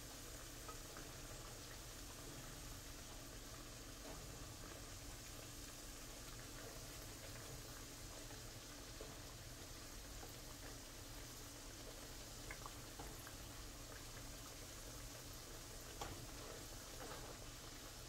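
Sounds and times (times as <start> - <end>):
bananas sizzling in hot oil: 0.0 - 18.0.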